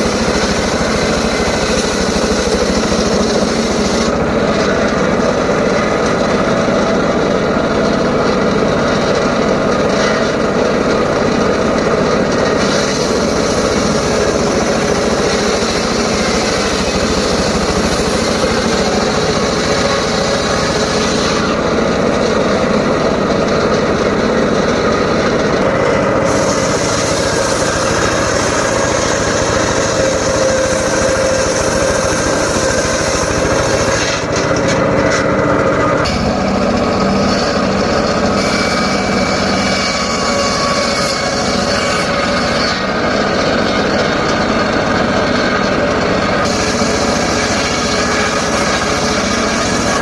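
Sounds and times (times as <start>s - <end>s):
circular saw cutting logs: 0.0s - 50.0s.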